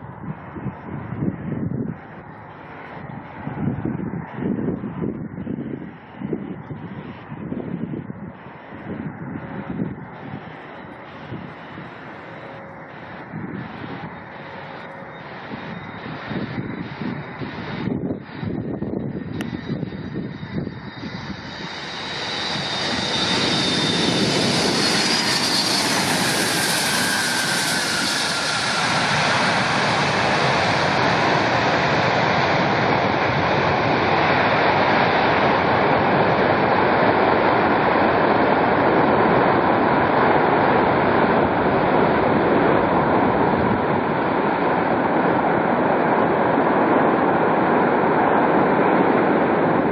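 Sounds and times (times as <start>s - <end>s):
high jet whine: 0.0s - 49.9s
jet engines roaring: 0.0s - 49.9s.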